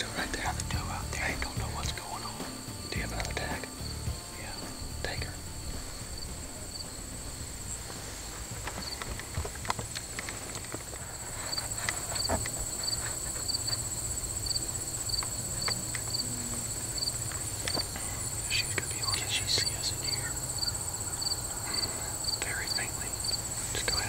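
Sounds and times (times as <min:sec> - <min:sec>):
insects buzzing and chirping: 0:00.0 - 0:24.0.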